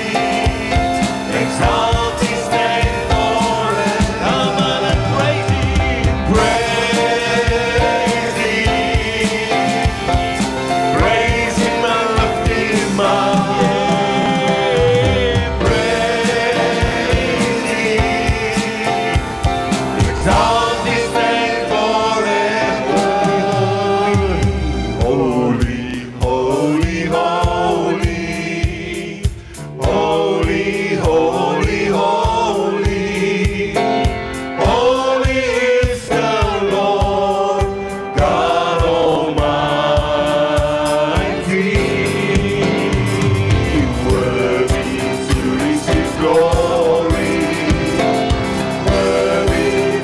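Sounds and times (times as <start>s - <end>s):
drums: 0.0s - 50.0s
keyboard: 0.0s - 50.0s
voices singing together: 0.0s - 50.0s.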